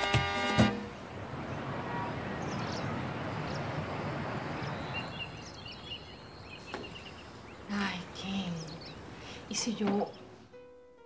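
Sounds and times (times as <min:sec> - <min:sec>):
distant traffic: 0:00.0 - 0:11.0
small birds chirping: 0:01.4 - 0:10.5.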